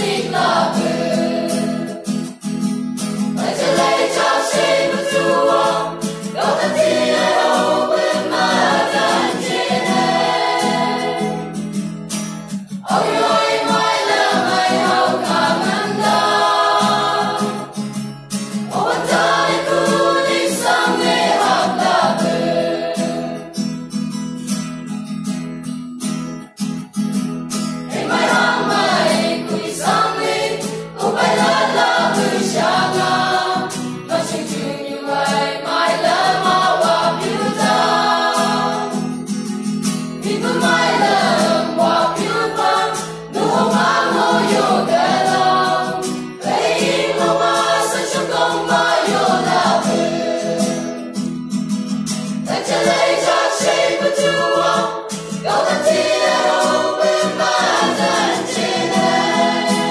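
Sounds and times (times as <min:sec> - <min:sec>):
mixed choir singing gospel: 0:00.0 - 0:02.2, 0:03.2 - 0:11.8, 0:12.8 - 0:17.9, 0:18.5 - 0:23.6, 0:27.9 - 0:39.5, 0:40.2 - 0:51.3, 0:52.2 - 0:59.9
acoustic guitar: 0:00.0 - 0:59.9.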